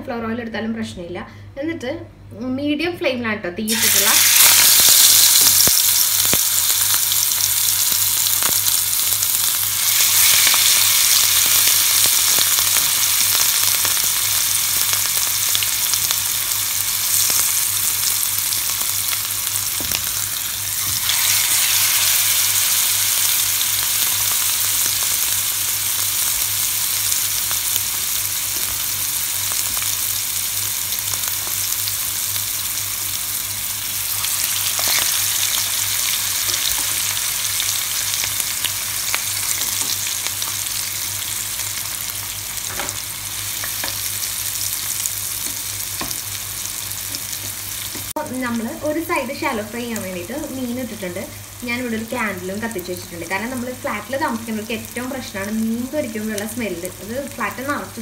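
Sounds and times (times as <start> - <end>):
fish sizzling in hot oil: 3.7 - 58.0.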